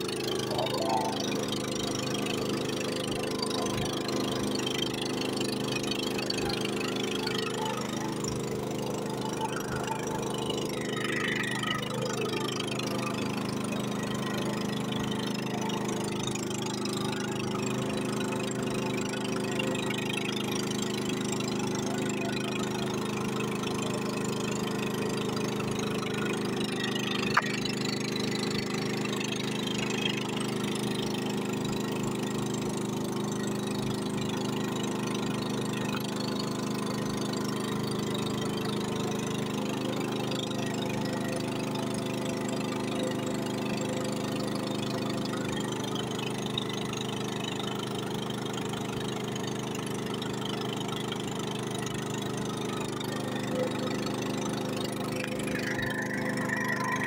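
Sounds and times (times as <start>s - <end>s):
motor boat engine running: 0.0s - 57.0s.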